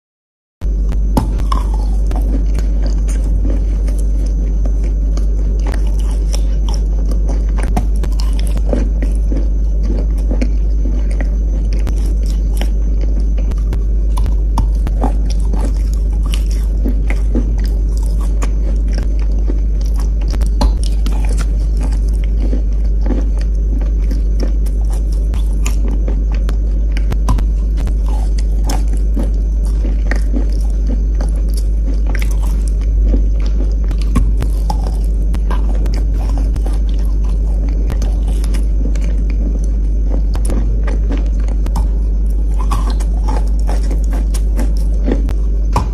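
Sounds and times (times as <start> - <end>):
steady low hum: 0.6 - 45.9
chalk crunching being chewed: 0.8 - 45.9.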